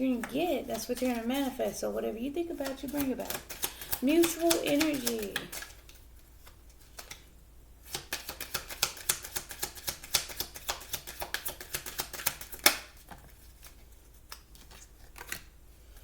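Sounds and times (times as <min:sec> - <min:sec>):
cards being shuffled: 0:00.2 - 0:01.7, 0:02.5 - 0:15.6.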